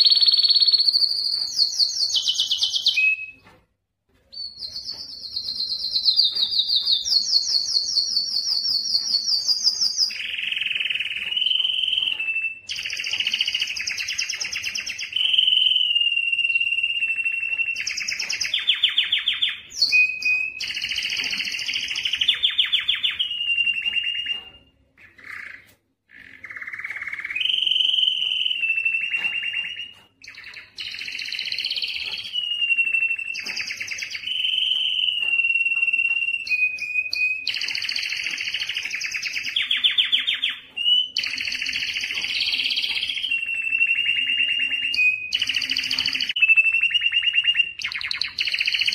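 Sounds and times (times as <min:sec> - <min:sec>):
canary singing trills and whistles: 0:00.0 - 0:03.6, 0:04.3 - 0:48.9.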